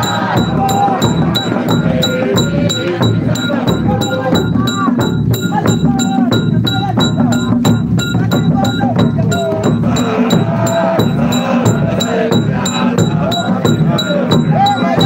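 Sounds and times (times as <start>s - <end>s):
group of men singing: 0.0s - 15.0s
hand drums beaten in rhythm: 0.0s - 15.0s.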